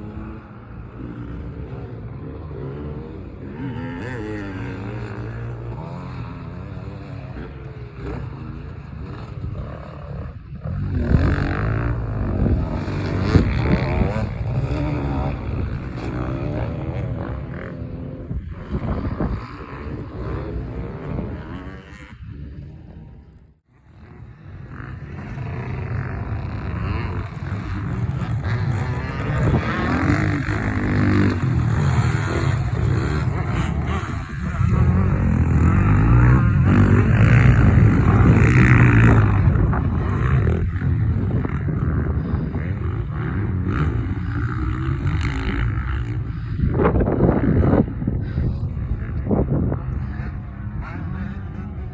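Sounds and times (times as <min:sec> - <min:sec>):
small two-stroke engine revving: 0:00.0 - 0:23.2, 0:23.8 - 0:51.9.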